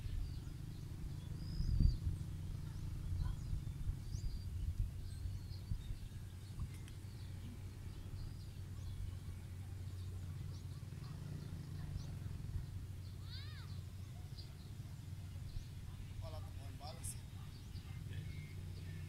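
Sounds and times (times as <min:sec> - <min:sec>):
birds chirping: 0:00.0 - 0:19.0
low outdoor rumble: 0:00.0 - 0:19.0.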